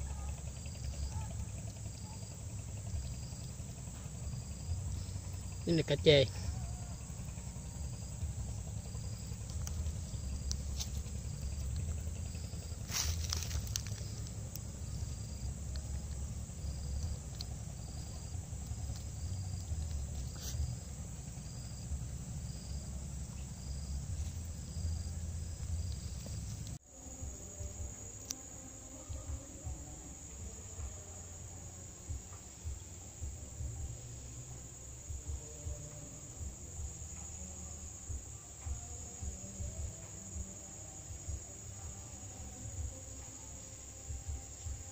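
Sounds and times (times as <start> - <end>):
high insect drone: 0.0 - 44.9
insects chirping: 0.0 - 44.9
low steady rumble: 0.0 - 44.9.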